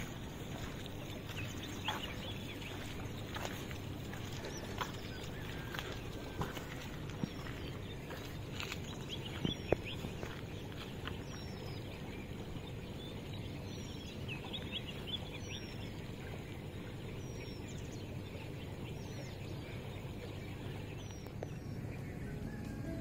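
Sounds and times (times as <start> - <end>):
bird chirping: 0.0 - 23.0
low outdoor rumble: 0.0 - 23.0.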